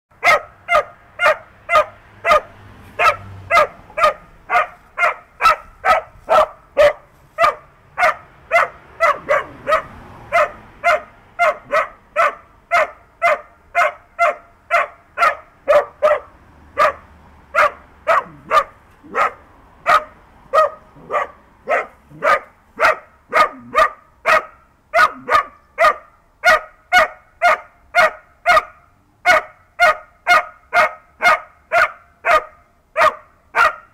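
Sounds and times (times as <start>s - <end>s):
small dog barking: 0.2s - 33.9s.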